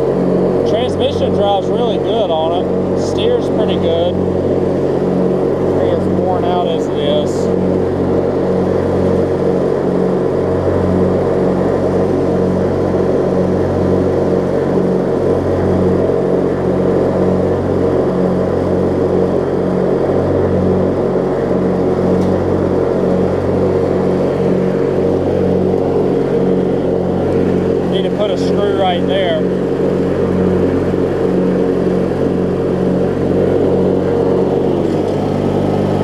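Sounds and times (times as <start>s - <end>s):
riding mower engine running: 0.0s - 36.0s.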